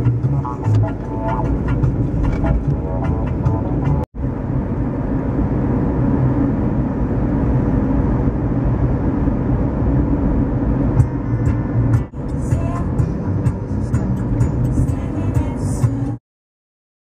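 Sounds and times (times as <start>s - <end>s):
car road and engine noise: 0.0s - 16.2s.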